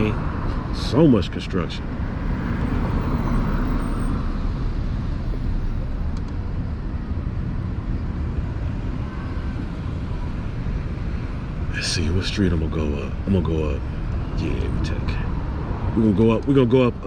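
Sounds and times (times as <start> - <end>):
road and traffic rumble: 0.0 - 17.0.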